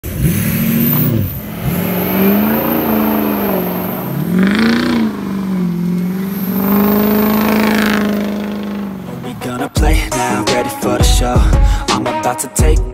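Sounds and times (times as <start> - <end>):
diesel engine revving: 0.0 - 11.8.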